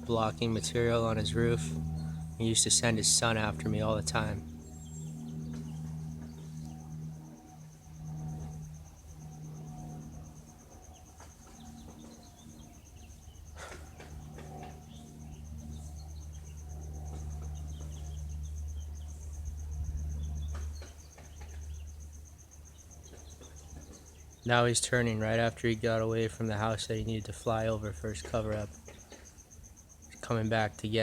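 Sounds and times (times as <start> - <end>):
cricket trill: 0.0 - 31.0
light plane droning overhead: 0.0 - 31.0.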